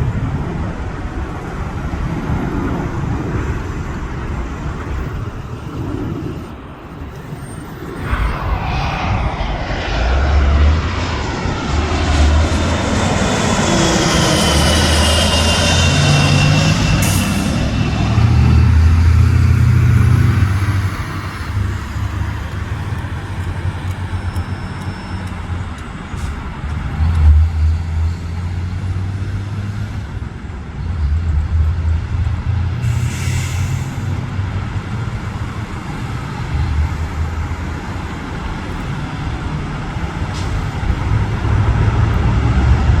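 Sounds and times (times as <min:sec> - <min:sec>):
distant jet engine: 0:00.0 - 0:43.0
road traffic rumble: 0:00.0 - 0:43.0.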